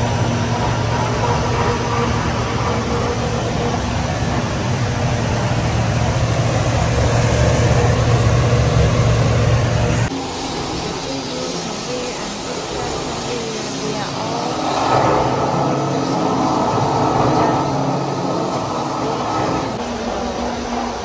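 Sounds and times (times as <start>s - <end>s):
blower air rush: 0.0s - 21.0s
machinery low hum: 0.0s - 21.0s.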